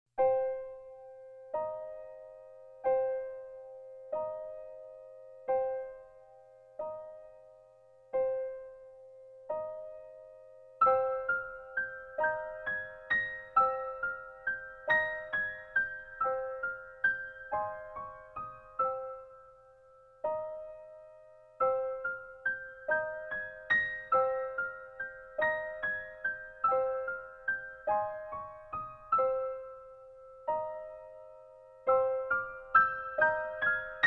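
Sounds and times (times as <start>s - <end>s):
piano chords and melody: 0.2s - 34.0s.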